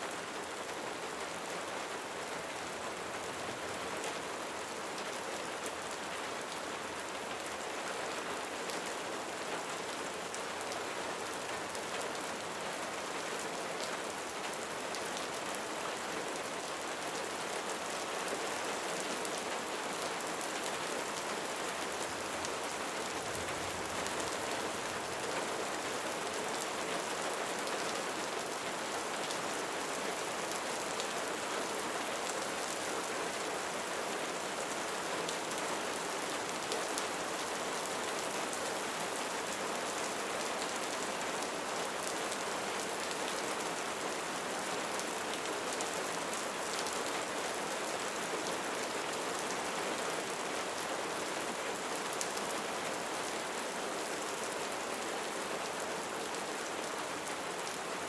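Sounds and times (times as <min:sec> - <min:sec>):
rain on a roof: 0:00.0 - 0:58.0.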